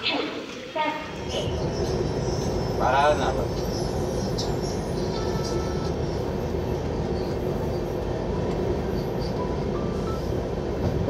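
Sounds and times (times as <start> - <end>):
train running rumble: 1.0 - 11.0.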